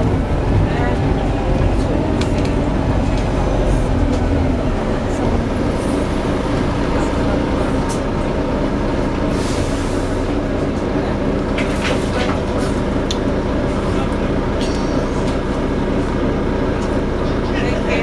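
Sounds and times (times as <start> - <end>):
bus droning hum: 0.0 - 18.0.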